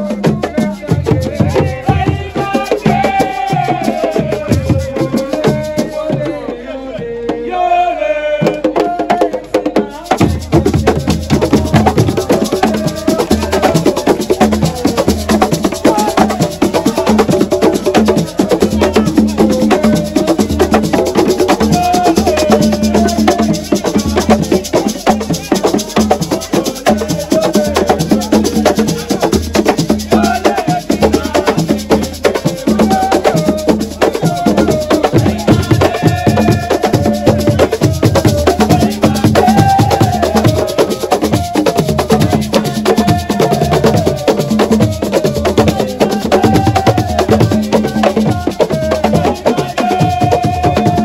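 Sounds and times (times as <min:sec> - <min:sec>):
fast drums and percussion: 0:00.0 - 0:51.0
voices chanting or singing: 0:00.0 - 0:51.0.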